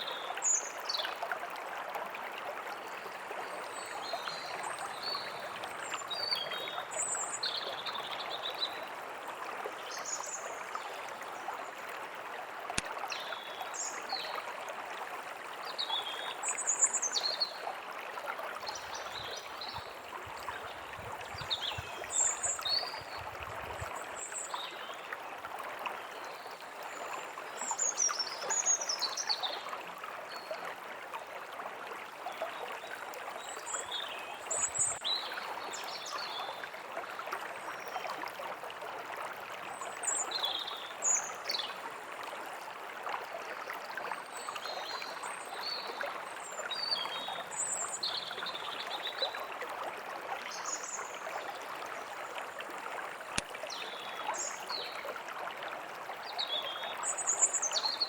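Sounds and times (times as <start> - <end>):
stream running over stones: 0.0 - 58.0.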